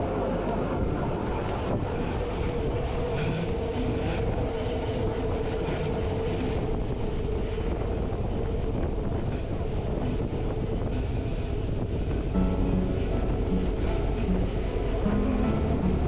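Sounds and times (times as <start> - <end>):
steady mid-pitched hum: 0.0 - 16.0
train wheels rumbling on track: 0.0 - 16.0.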